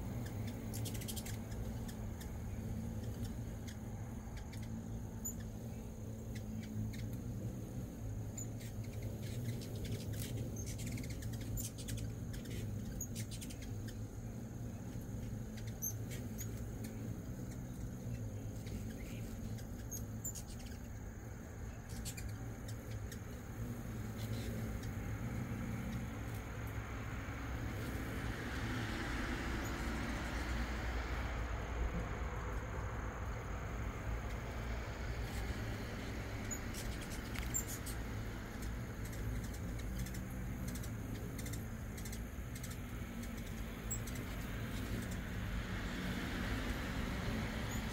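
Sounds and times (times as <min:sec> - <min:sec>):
hummingbirds chirping: 0:00.0 - 0:47.9
low background hum: 0:00.0 - 0:47.9.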